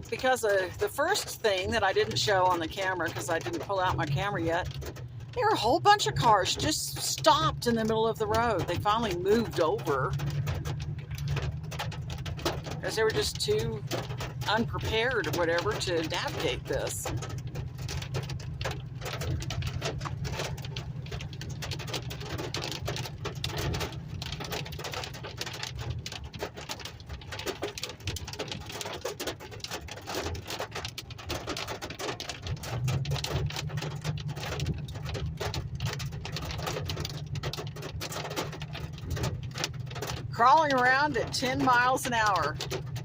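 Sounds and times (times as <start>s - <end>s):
engine and road noise: 0.0s - 43.0s
hail pelting vehicle roof: 0.0s - 43.0s.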